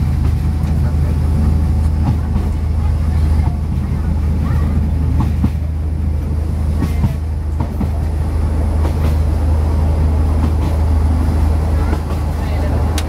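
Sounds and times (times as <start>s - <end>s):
railcar engine drone: 0.0s - 13.0s
train running noise: 0.0s - 13.0s.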